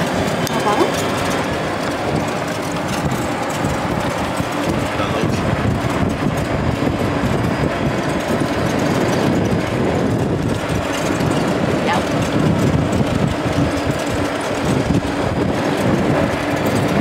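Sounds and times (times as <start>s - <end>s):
road noise from moving cart: 0.0s - 17.0s
wind noise: 0.0s - 17.0s.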